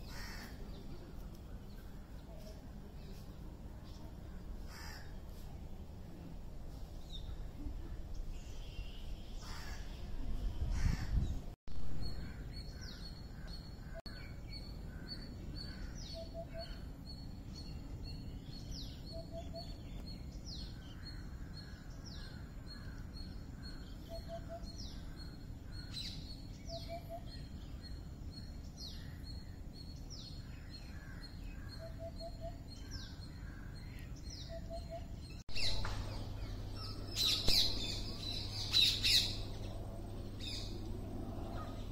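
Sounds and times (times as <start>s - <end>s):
bird chorus: 0.0s - 5.5s, 6.1s - 41.9s
low ambient hum: 0.0s - 41.9s.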